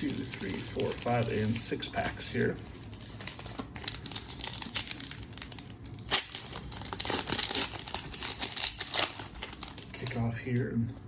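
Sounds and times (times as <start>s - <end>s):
packaging ripping: 0.0s - 1.6s, 2.4s - 10.2s
packaging crinkling: 0.0s - 10.4s.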